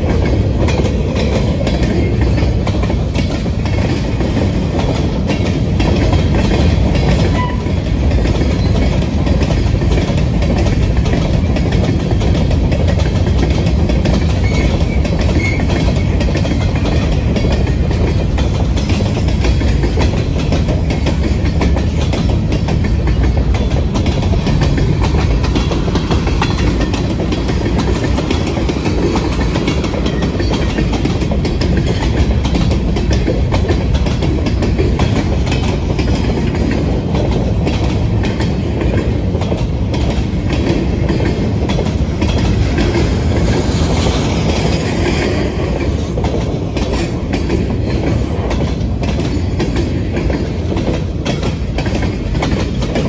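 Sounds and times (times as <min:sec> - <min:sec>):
steel wheels rumbling on rail: 0:00.0 - 0:53.0
wheels clicking over rail joints: 0:00.0 - 0:53.0.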